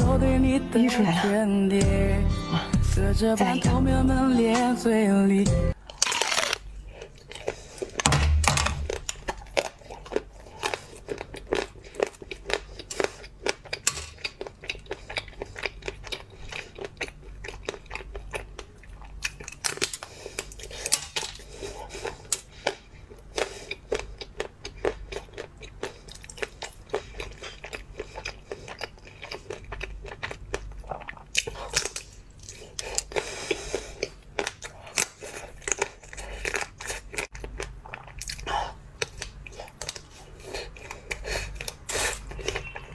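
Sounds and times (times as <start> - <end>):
crunchy biting and chewing: 5.7 - 42.9.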